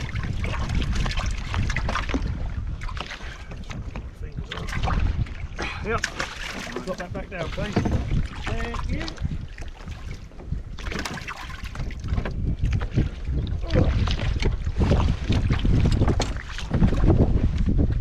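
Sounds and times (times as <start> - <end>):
water lapping against boat hull: 0.0 - 18.0
wind buffeting microphone: 0.0 - 18.0.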